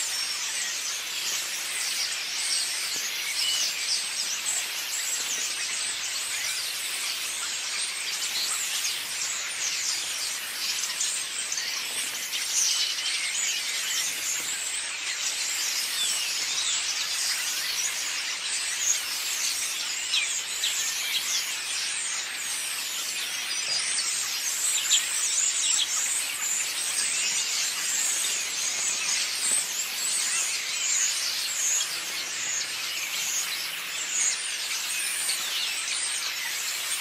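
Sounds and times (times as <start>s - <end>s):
flock of small birds chirping: 0.0s - 37.0s.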